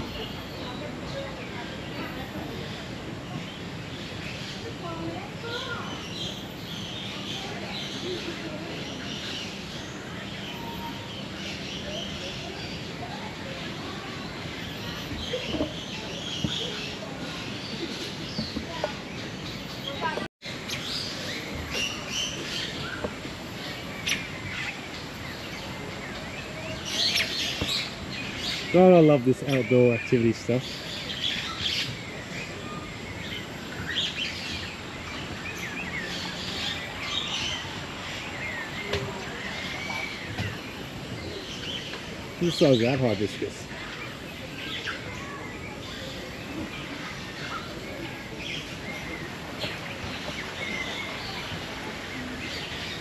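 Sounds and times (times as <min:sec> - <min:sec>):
background noise: 0:00.0 - 0:53.0
birds chirping and calling: 0:00.0 - 0:53.0.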